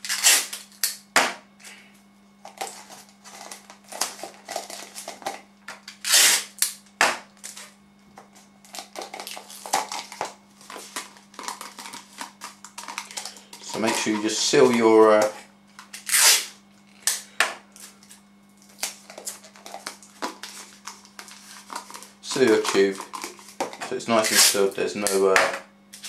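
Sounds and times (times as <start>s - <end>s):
sticky tape crackling and tearing: 0.0s - 1.0s, 2.5s - 6.8s, 8.6s - 25.3s
steady low hum: 0.0s - 26.0s.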